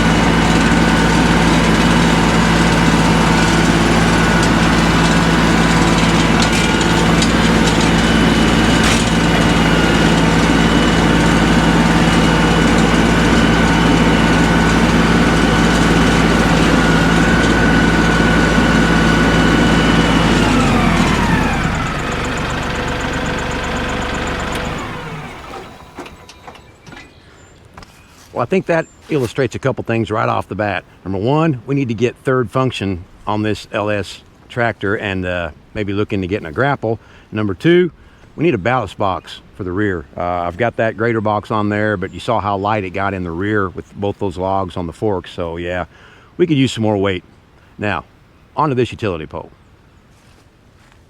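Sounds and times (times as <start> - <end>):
tractor engine running: 0.0 - 37.0, 37.6 - 45.6.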